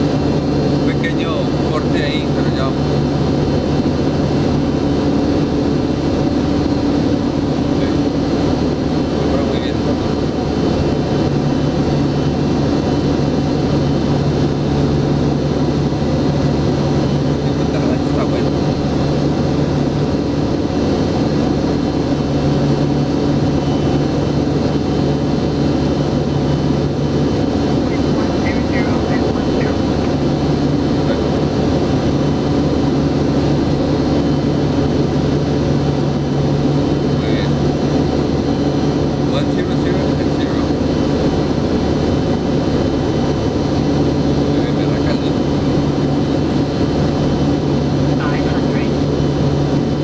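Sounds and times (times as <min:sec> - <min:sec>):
aircraft engines droning: 0:00.0 - 0:50.0.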